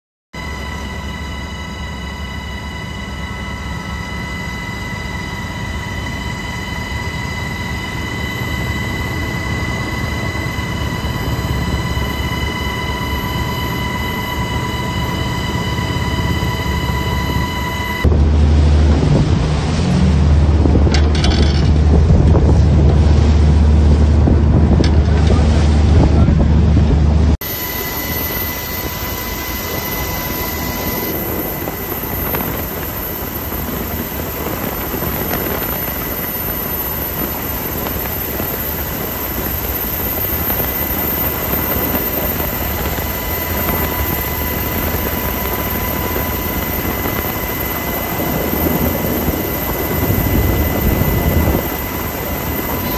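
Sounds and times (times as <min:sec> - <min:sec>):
helicopter rotor noise: 0:00.4 - 0:52.9
helicopter turbine whine: 0:00.4 - 0:52.9
wind buffeting on microphone: 0:06.0 - 0:27.4, 0:28.0 - 0:52.9.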